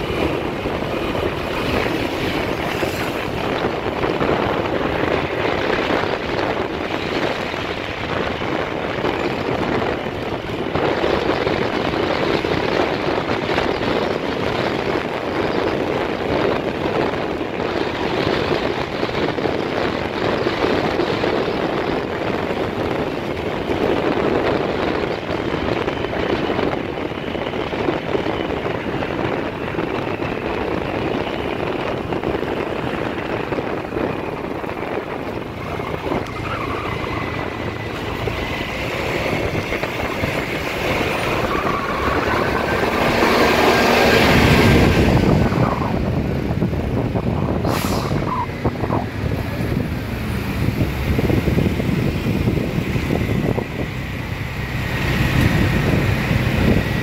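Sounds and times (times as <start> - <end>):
motorbike running: 0.0 - 57.0
wind and road noise: 0.0 - 57.0.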